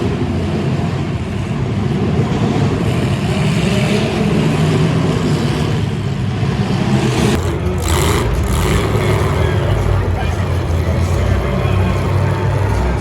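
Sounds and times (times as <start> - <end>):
car engines running loudly: 0.0 - 13.0.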